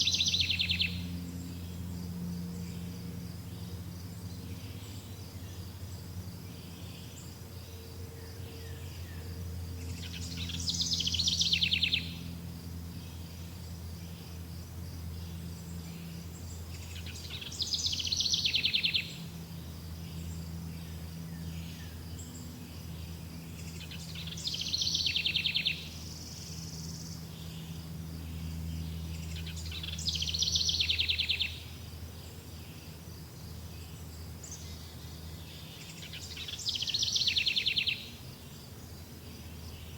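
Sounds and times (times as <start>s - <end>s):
songbird trilling: 0.0s - 5.8s, 6.5s - 14.2s, 15.3s - 19.5s, 21.0s - 31.8s, 33.8s - 38.6s
insects chirring: 0.0s - 39.9s.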